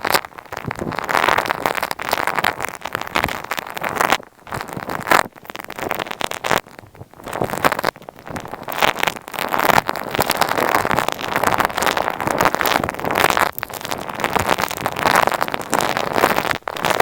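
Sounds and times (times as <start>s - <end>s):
crackling and scratching on microphones: 0.0s - 17.0s.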